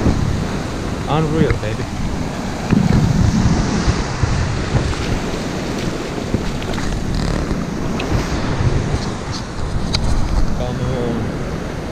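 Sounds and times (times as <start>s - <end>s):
sea surf washing up beach: 0.0s - 11.9s
wind buffeting microphone: 0.0s - 11.9s.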